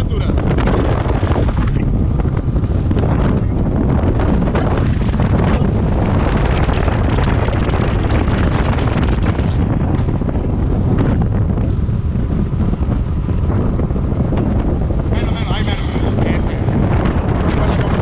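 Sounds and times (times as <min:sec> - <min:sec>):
boat running: 0:00.0 - 0:18.0
wind buffeting microphone: 0:00.0 - 0:18.0.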